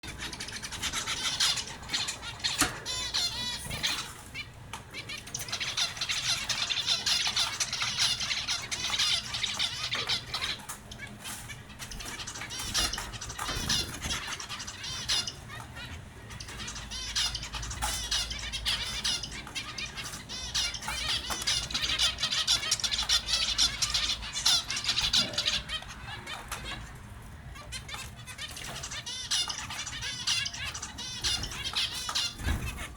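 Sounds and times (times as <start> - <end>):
finches chirping: 0.0 - 32.9.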